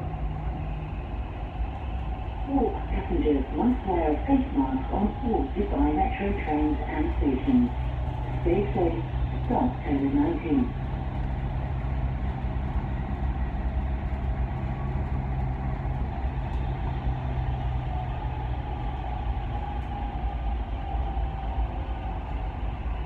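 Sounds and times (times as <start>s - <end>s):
faint whine: 0.0s - 23.0s
train rumble and hum: 0.0s - 23.0s.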